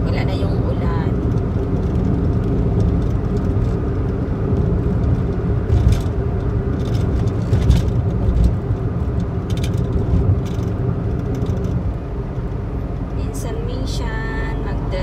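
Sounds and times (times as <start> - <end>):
car cabin road and engine noise: 0.0 - 15.0.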